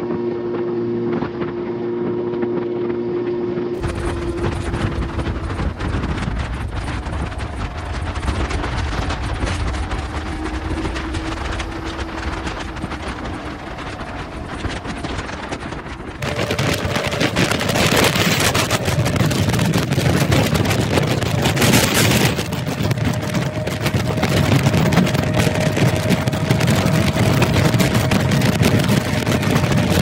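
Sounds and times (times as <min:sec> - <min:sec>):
motorcycle engine hum: 0:00.0 - 0:30.0
wind rushing over microphone: 0:00.0 - 0:30.0.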